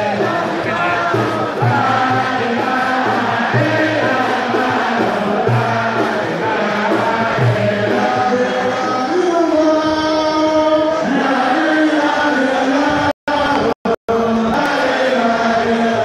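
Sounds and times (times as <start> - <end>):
group chanting: 0.0 - 16.0.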